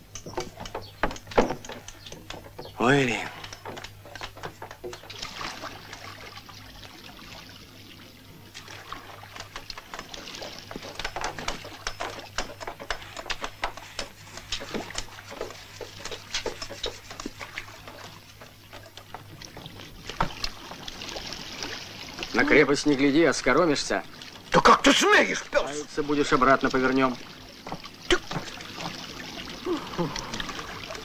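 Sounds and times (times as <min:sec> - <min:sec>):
oar knocks and clicks: 0:00.0 - 0:06.5, 0:08.6 - 0:31.0
oars splashing in water: 0:00.0 - 0:31.0.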